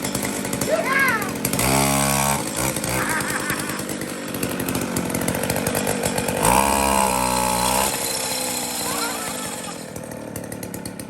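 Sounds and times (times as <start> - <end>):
small gasoline engine revving: 0.0 - 11.0.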